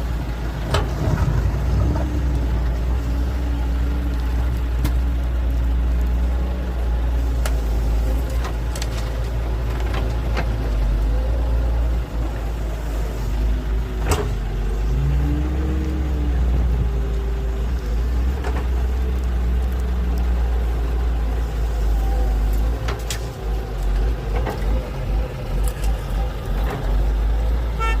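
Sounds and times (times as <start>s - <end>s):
diesel engines rumbling: 0.0s - 28.0s.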